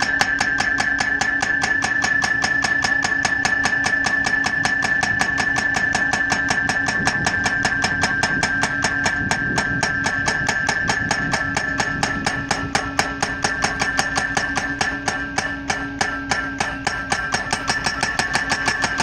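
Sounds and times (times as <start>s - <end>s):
hydraulic hammer pounding post: 0.0s - 19.0s
machine whine and hum: 0.0s - 19.0s.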